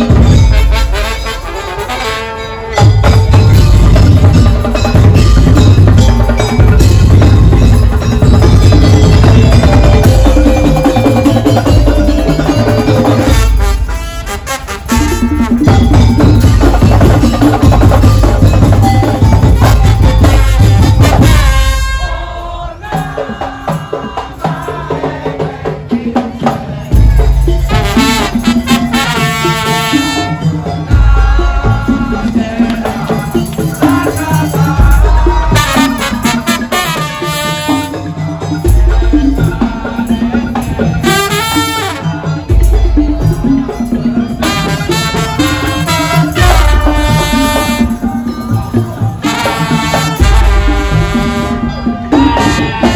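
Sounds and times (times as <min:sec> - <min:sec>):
percussion band music: 0:00.0 - 0:52.9.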